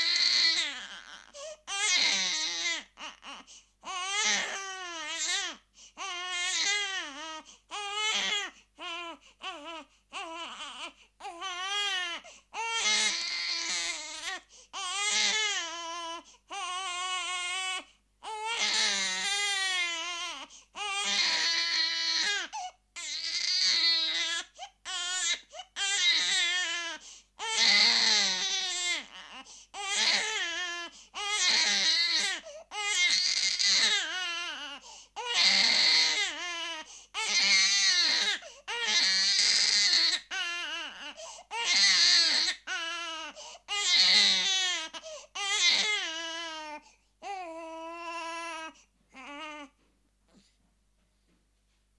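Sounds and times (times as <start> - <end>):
baby crying: 0.0 - 49.8.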